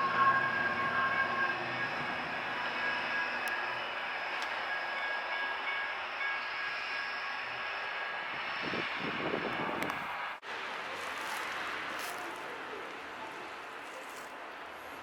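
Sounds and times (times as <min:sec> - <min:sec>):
light rail train rolling: 0:00.0 - 0:15.0.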